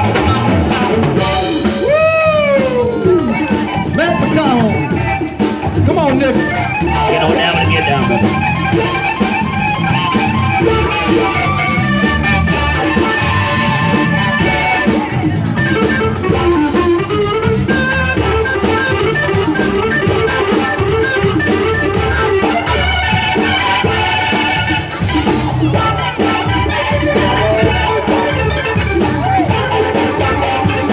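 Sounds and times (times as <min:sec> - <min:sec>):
drum kit: 0:00.0 - 0:30.9
guitar: 0:00.0 - 0:30.9
keyboard: 0:00.0 - 0:30.9.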